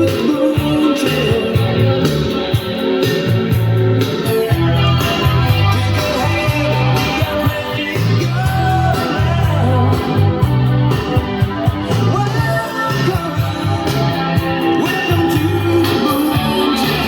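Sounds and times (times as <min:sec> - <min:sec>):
rock song over loudspeakers: 0:00.0 - 0:17.0.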